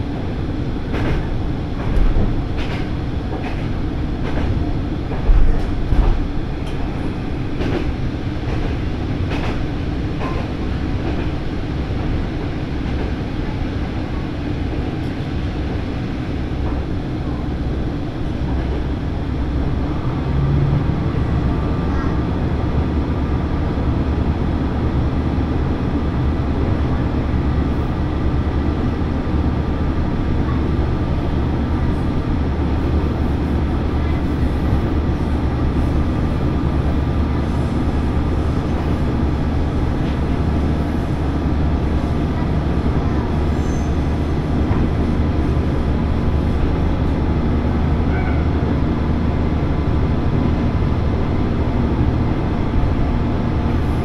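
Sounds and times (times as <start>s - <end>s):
railcar engine drone: 0.0s - 54.0s
wheel and rail rumbling: 0.0s - 54.0s.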